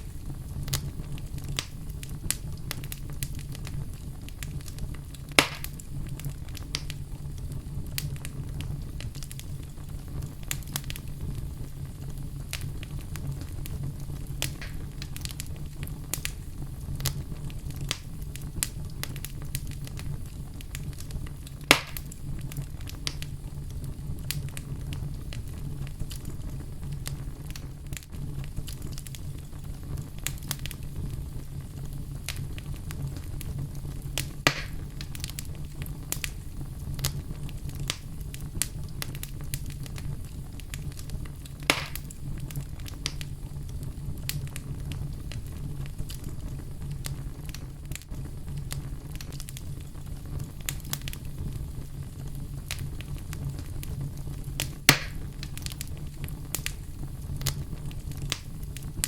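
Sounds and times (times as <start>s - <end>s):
fire crackling: 0.0s - 59.0s
sharp fire pops: 0.0s - 59.0s
wood fire flames rumbling: 0.0s - 59.0s.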